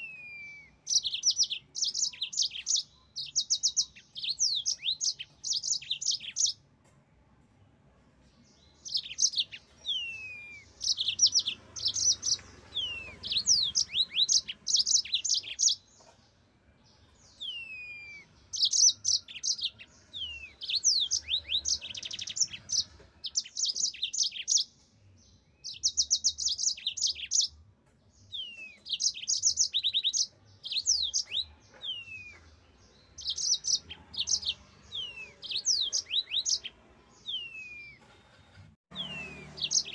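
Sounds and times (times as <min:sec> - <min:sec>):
canary singing: 0:00.0 - 0:06.7, 0:08.4 - 0:16.2, 0:16.8 - 0:39.9.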